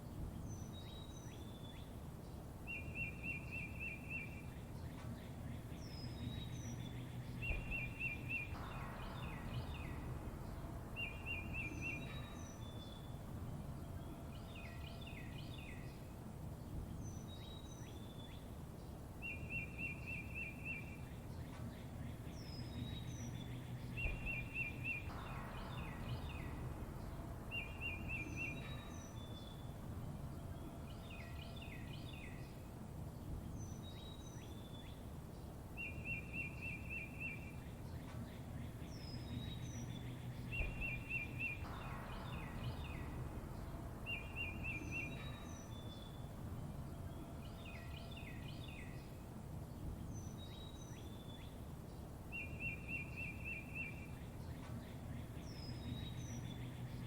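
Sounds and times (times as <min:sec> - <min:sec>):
low background hiss: 0:00.0 - 0:57.0
songbirds chirping and trilling: 0:00.0 - 0:57.0.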